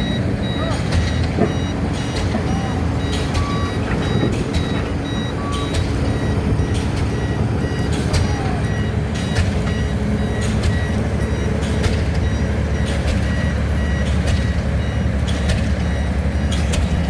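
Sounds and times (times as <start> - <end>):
diesel machinery running: 0.0 - 17.0
reversing alarm beeping: 0.0 - 17.0.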